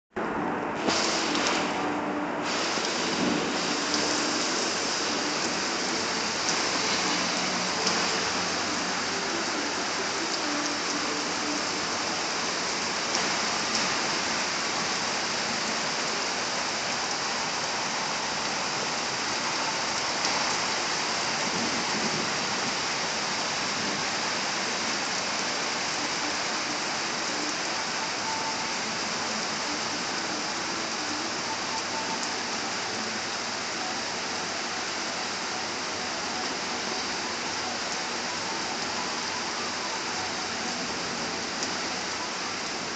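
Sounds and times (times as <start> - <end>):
heavy rain falling: 0.1 - 42.9.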